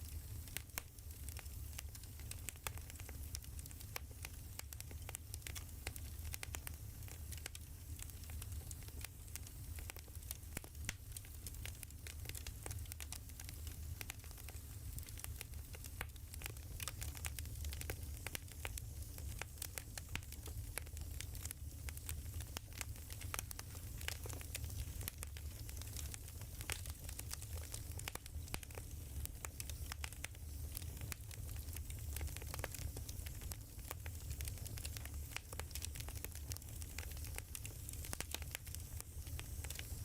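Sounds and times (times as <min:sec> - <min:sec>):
firewood crackling: 0:00.2 - 0:40.0.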